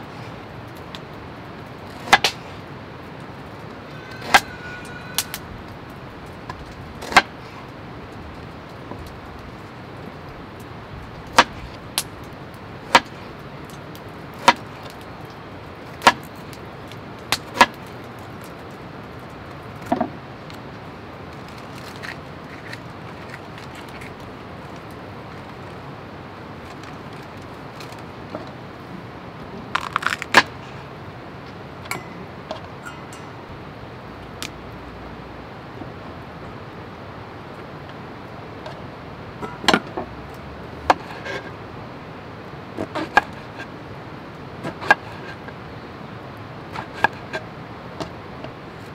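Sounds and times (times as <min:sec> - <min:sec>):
steady background hiss: 0:00.0 - 0:48.9.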